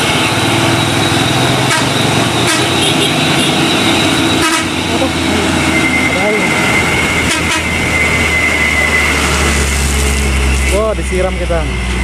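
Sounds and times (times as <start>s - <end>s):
diesel truck engine passing: 0.0s - 12.0s.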